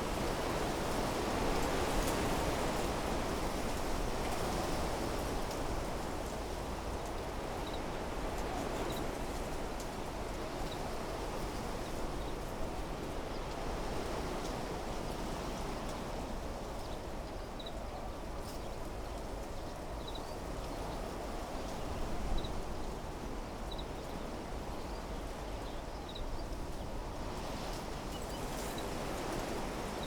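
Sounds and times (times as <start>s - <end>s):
wind rustling leaves: 0.0s - 30.0s.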